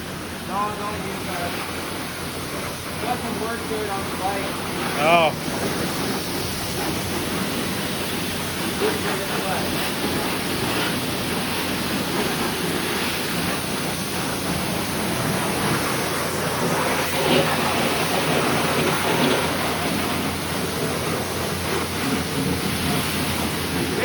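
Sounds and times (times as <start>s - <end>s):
high-pressure water spray hissing: 0.0s - 24.0s.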